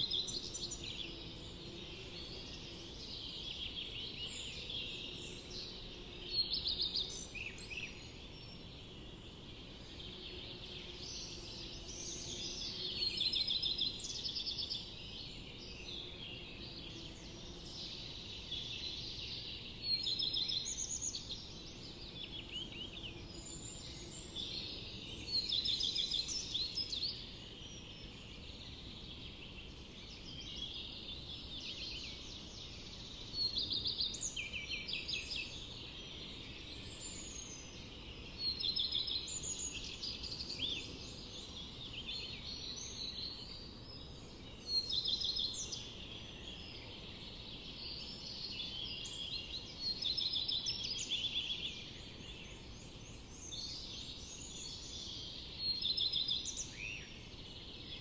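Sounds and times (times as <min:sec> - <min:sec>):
bird song with rapid trills: 0:00.0 - 0:58.0.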